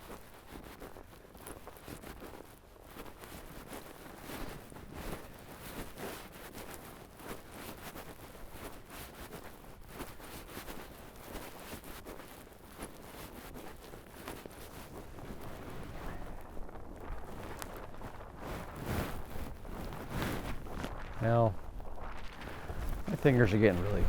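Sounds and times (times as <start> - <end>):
footsteps crunching through snow: 0.1 - 24.0.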